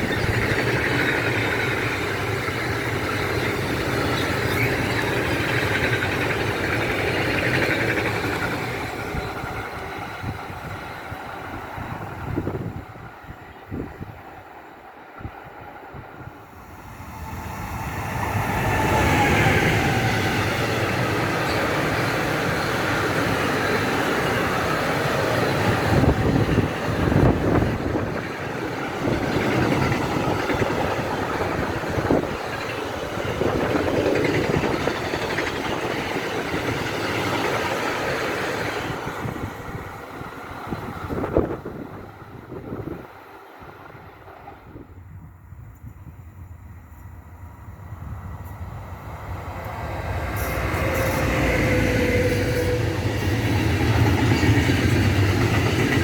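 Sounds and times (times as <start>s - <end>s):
freight train passing: 0.0s - 56.0s
wheels rumbling on rail: 0.0s - 56.0s.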